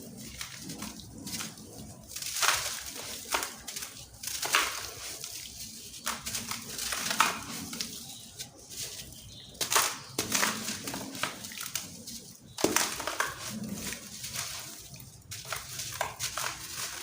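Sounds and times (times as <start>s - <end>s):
cement chunks crunching: 0.0s - 17.0s.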